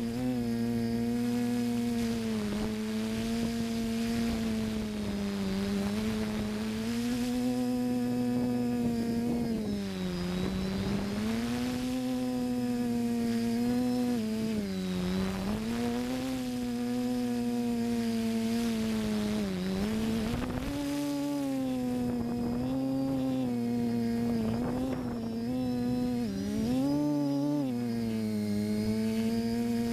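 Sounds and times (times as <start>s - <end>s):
drone motors and propellers humming: 0.0s - 29.9s.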